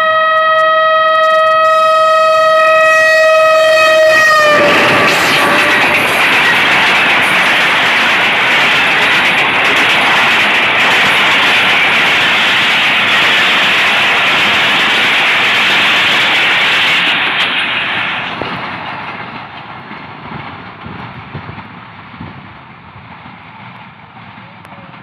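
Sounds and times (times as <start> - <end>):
train wheels rushing on rail: 1.1 - 25.0.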